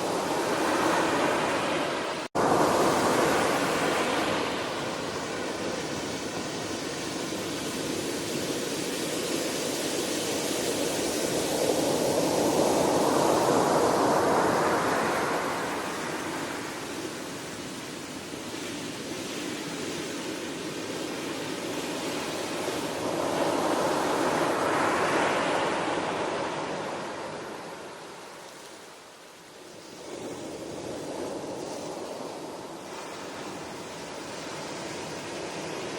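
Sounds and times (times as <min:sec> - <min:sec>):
ocean waves breaking on shore: 0:00.0 - 0:35.9
steady rush of surf: 0:00.0 - 0:35.9.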